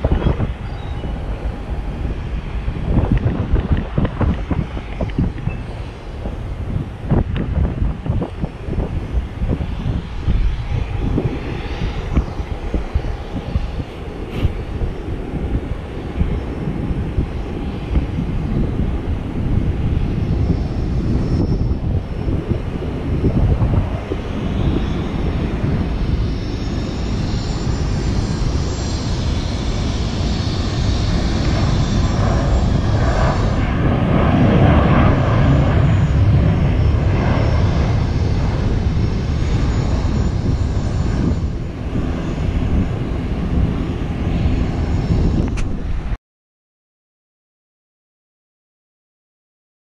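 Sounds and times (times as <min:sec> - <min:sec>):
high engine whine: 0:00.0 - 0:46.2
jet airliner engines running: 0:00.0 - 0:46.2.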